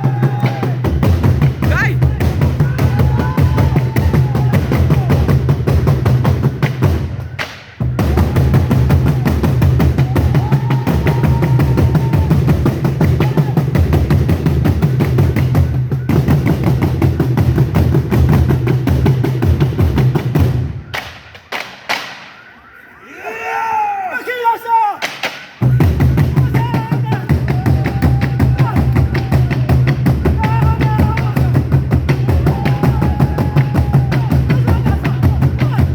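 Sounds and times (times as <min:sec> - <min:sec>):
drums in fast rhythm: 0:00.0 - 0:21.3, 0:25.0 - 0:35.9.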